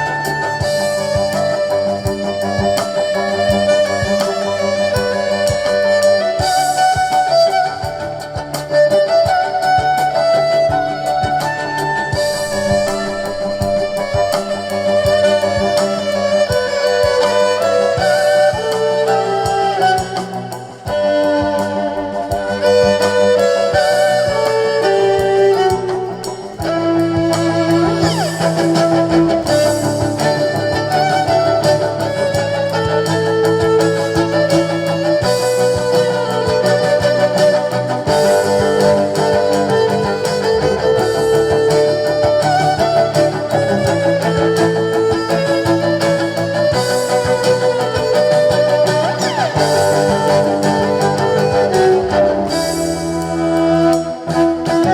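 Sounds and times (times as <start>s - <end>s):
band playing instrumental music: 0.0s - 54.9s.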